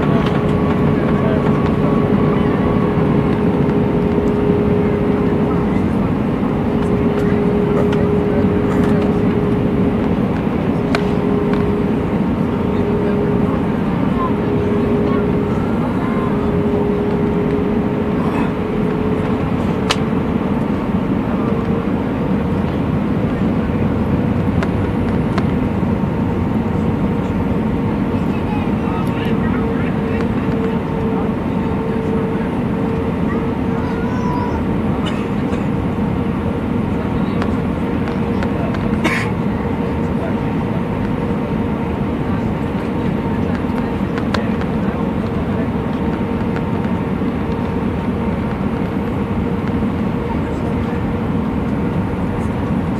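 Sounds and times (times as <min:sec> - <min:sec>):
aircraft engines rumbling: 0:00.0 - 0:52.9
constant hum: 0:00.0 - 0:52.9.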